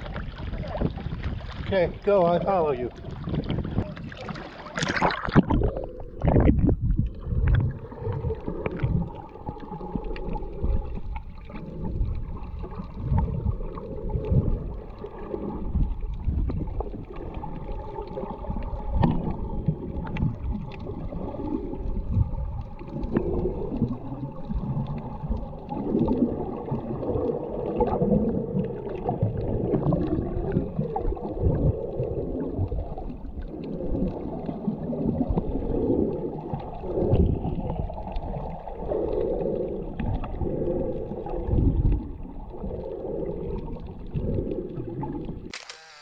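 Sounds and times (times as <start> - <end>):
muffled underwater sloshing: 0.0 - 45.5
water splashing: 0.0 - 46.0.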